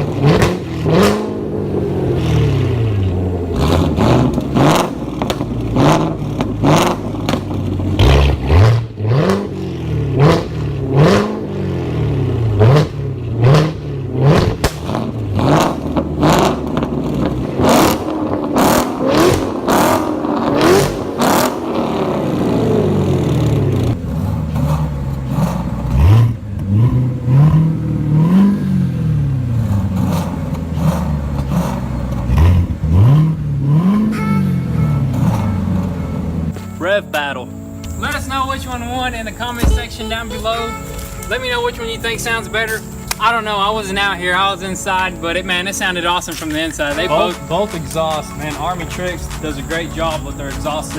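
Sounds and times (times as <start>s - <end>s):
car engines revving: 0.0s - 50.9s
exhaust crackles: 0.0s - 50.9s.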